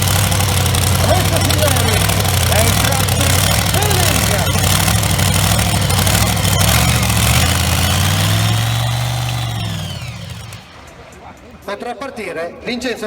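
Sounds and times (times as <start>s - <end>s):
tractor engine revving with whine: 0.0s - 11.1s.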